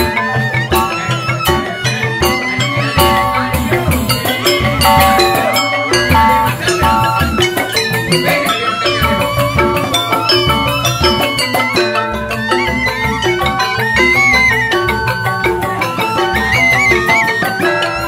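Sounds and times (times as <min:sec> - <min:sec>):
bamboo xylophones ringing: 0:00.0 - 0:18.0
hand drums: 0:00.0 - 0:18.0.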